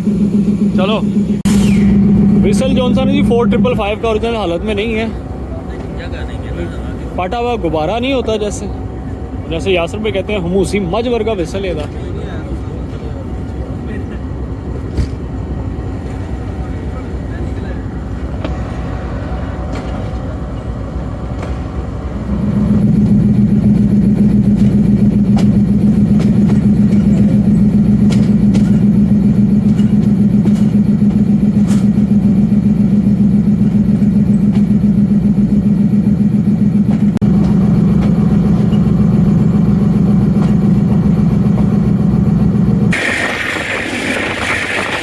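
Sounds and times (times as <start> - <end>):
diesel locomotive engine droning: 0.0 - 45.0.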